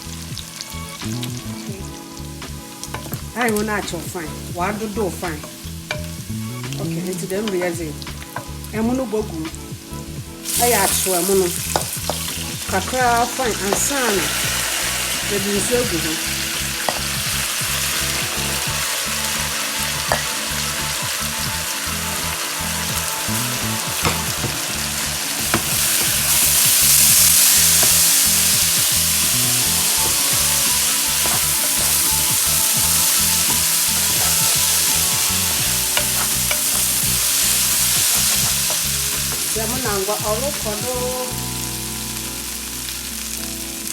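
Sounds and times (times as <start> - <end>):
food sizzling in hot oil: 0.0 - 43.9.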